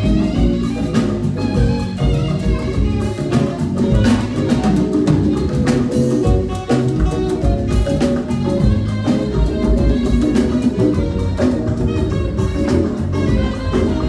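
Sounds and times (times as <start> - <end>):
live praise band playing: 0.0 - 14.0
steady drum beat: 0.0 - 14.0.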